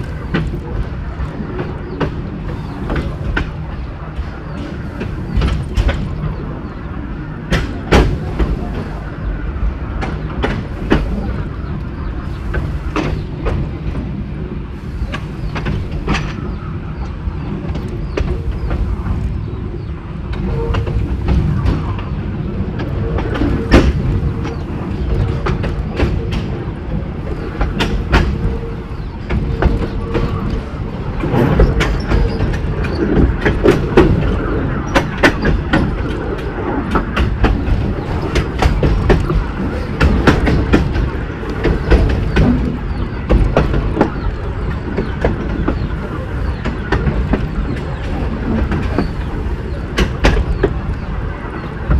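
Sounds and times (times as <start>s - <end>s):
train rumbling: 0.0s - 51.9s
wheels clicking over rail joints: 0.0s - 51.9s.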